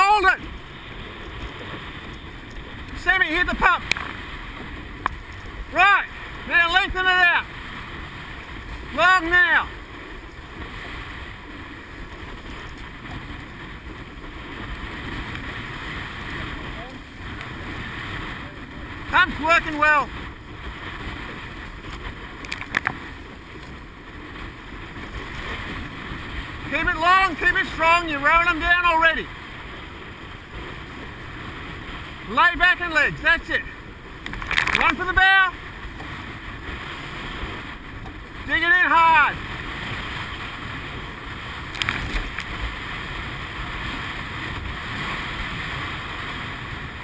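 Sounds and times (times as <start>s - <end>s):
water rushing past boat: 0.0s - 47.0s
wind buffeting microphone: 0.0s - 47.0s.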